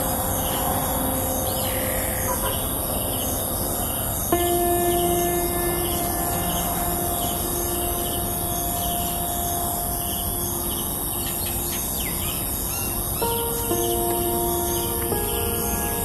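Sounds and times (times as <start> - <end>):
birds chirping: 0.0 - 16.0
soft held music notes: 0.0 - 16.0.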